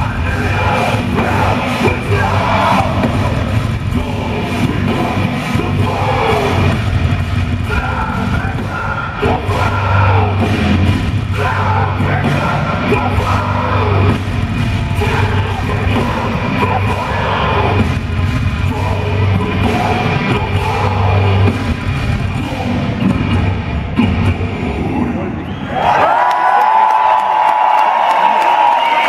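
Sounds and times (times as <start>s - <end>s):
singer yelling and singing: 0.0s - 18.0s, 18.6s - 25.4s
drums: 0.0s - 29.0s.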